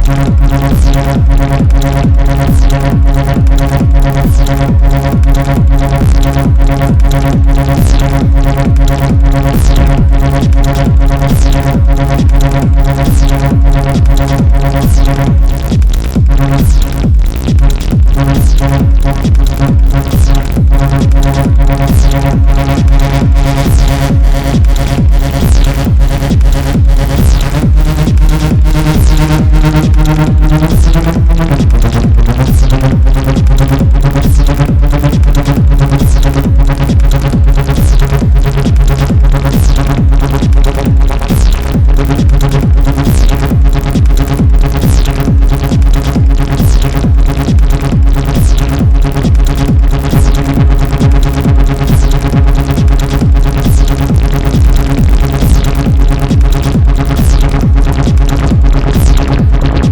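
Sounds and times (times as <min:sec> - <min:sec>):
acid techno synthesizer music: 0:00.0 - 0:59.9.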